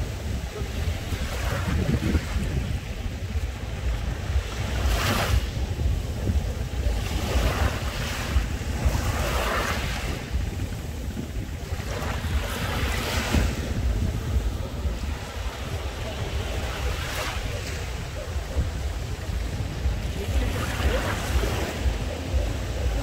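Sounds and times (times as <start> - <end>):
waves washing onto beach: 0.0 - 23.0
wind buffeting microphone: 0.0 - 23.0.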